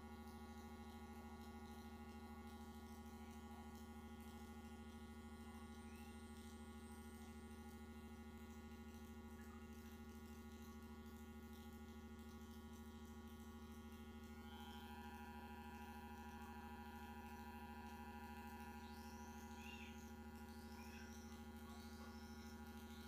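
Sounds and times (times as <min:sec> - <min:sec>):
faint electrical hum and buzz: 0:00.0 - 0:23.0.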